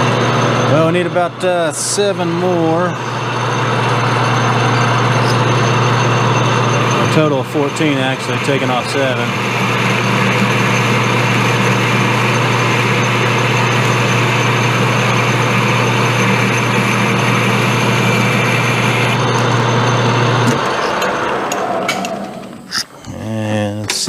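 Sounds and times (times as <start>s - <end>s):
metal lathe motor hum: 0.0s - 22.8s.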